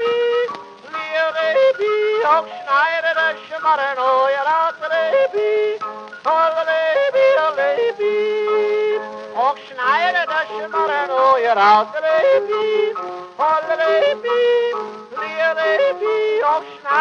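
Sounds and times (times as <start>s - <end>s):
man yodeling: 0.0s - 17.0s.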